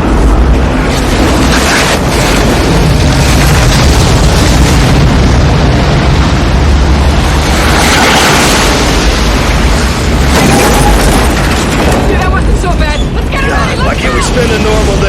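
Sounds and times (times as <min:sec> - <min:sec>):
tornado wind roaring: 0:00.0 - 0:15.0.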